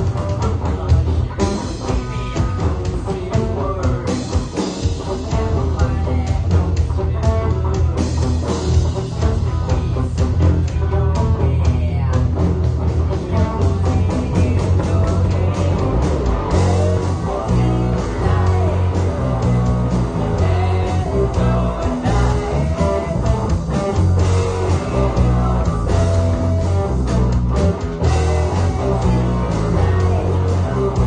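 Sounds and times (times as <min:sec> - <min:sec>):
man singing: 0:00.0 - 0:08.2, 0:09.1 - 0:31.0
electric bass: 0:00.0 - 0:31.0
electric guitar: 0:00.0 - 0:31.0.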